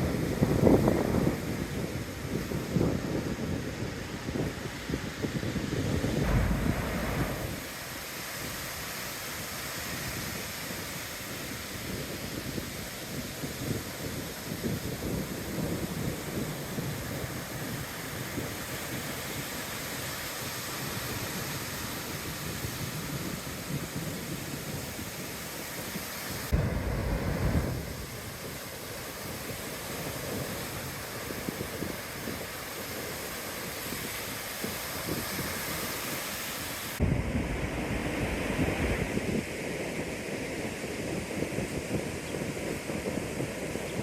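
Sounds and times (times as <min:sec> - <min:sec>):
wind buffeting microphone: 0:00.0 - 0:44.0
ocean surf: 0:06.2 - 0:41.7.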